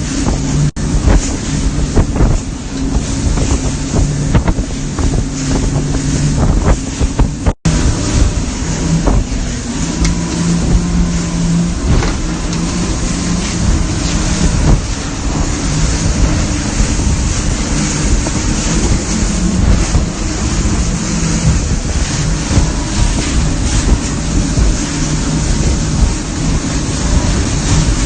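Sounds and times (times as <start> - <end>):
motorboat engine droning: 0.0 - 28.0
water rushing: 0.0 - 28.0
wind on microphone: 0.0 - 28.0.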